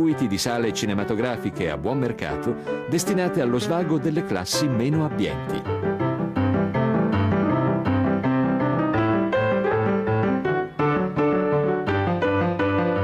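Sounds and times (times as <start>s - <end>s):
upbeat solo piano music: 0.0s - 13.0s.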